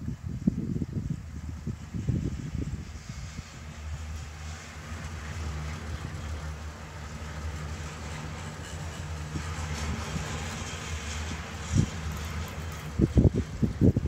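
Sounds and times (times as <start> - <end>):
engine low hum: 0.0 - 14.0.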